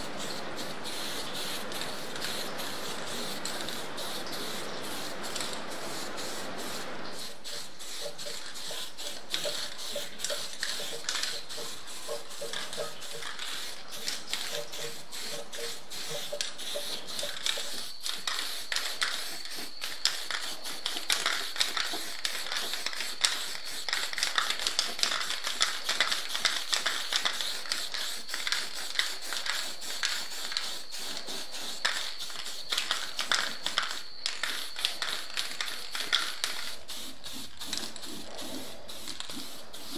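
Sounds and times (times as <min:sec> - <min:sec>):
spray can hissing: 0:00.0 - 0:39.9.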